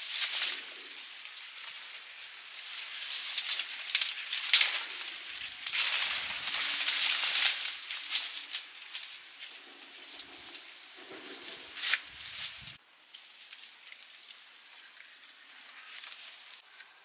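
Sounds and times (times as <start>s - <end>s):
rustling and crackling: 0.0s - 17.0s.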